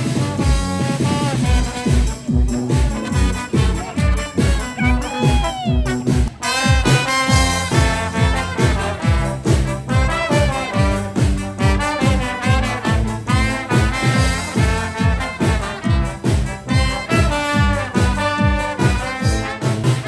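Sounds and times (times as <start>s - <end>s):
oompah brass band: 0.0s - 20.0s.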